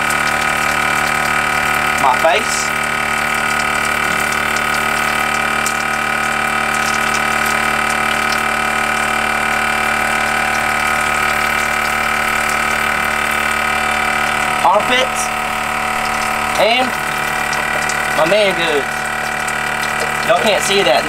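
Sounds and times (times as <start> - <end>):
electric water pump humming: 0.0 - 21.0
shower water running: 0.0 - 21.0.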